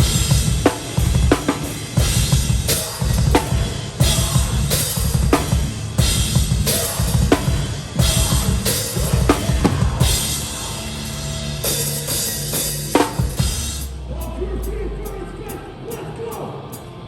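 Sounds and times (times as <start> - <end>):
crashing cymbals: 0.0 - 17.0.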